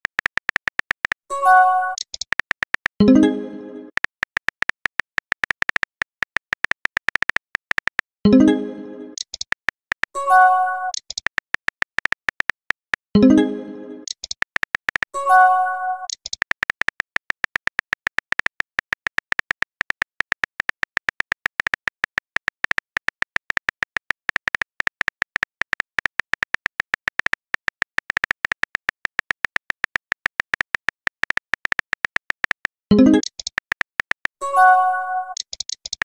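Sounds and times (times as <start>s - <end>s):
phone keyboard clicks: 0.0s - 1.3s, 1.9s - 3.1s, 3.9s - 8.2s, 9.2s - 10.2s, 10.9s - 13.2s, 14.0s - 15.2s, 16.0s - 34.4s, 35.3s - 36.0s.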